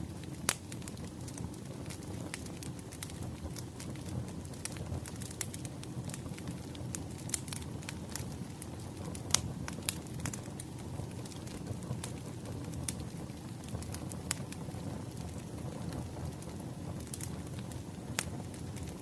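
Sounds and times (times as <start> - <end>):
rush of burning logs: 0.0 - 19.0
wood fire crackling and popping: 0.0 - 19.0.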